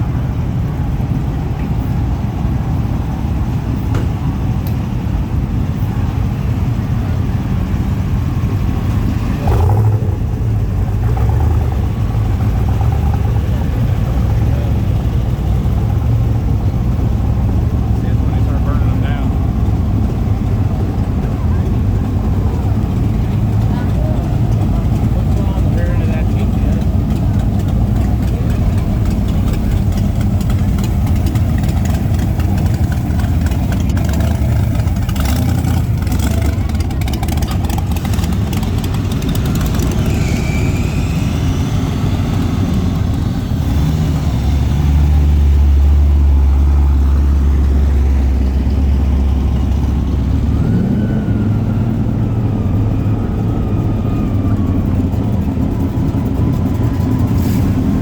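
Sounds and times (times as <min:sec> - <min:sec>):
car engines idling and revving: 0:00.0 - 0:58.0
deep loud engine: 0:00.0 - 0:58.0.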